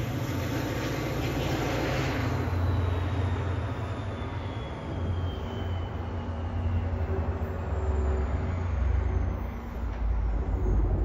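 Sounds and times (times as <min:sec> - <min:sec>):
faint falling whine: 0:00.0 - 0:11.0
train low rumble: 0:00.0 - 0:11.0.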